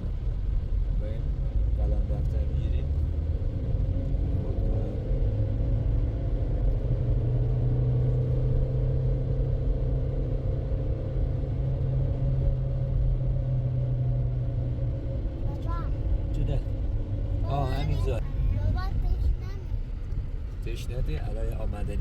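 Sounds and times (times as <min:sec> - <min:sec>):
car engine rumble from inside: 0:00.0 - 0:22.0.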